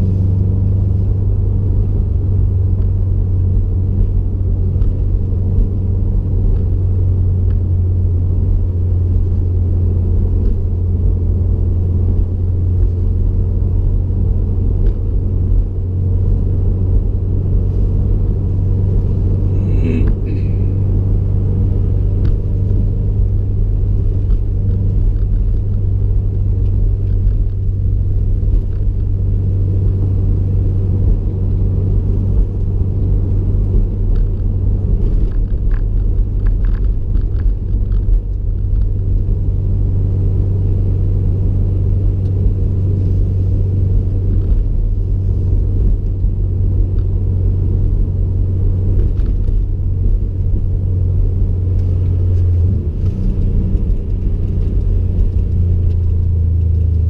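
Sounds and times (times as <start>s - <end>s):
car exhaust rumble: 0.0s - 57.0s.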